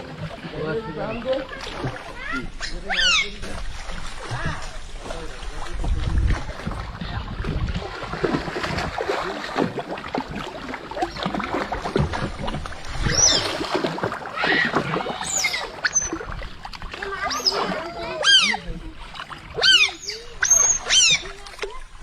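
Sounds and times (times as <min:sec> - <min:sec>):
water splashing around boat: 0:00.0 - 0:22.0.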